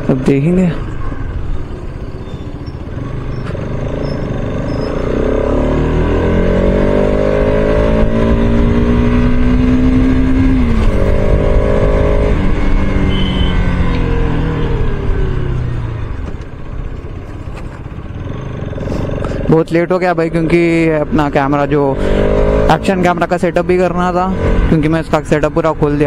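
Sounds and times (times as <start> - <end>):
motorcycle engine accelerating: 1.2 - 25.4.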